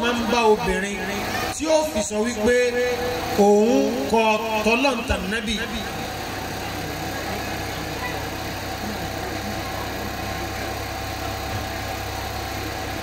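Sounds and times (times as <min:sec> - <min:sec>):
faint voices: 0:00.0 - 0:13.0
low mechanical hum: 0:00.0 - 0:13.0.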